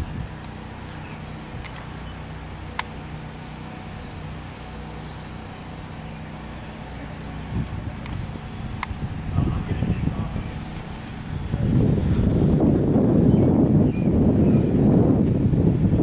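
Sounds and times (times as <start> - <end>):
portable generators humming: 0.0 - 16.0.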